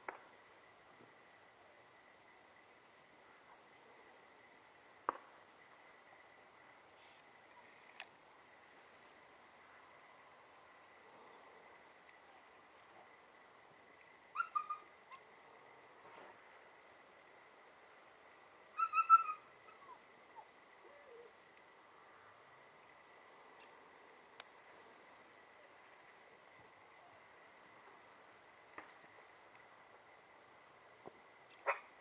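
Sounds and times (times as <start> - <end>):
faint outdoor background: 0.0 - 32.0.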